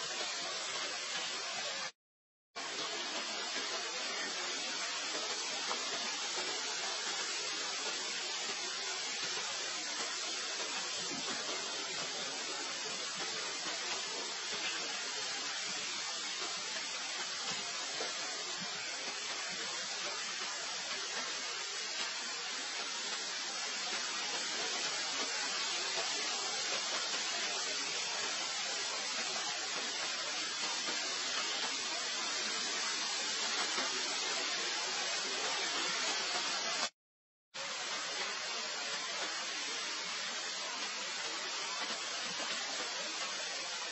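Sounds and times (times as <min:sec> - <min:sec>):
steady hiss: 0:00.0 - 0:02.0, 0:02.6 - 0:37.0, 0:37.6 - 0:43.9.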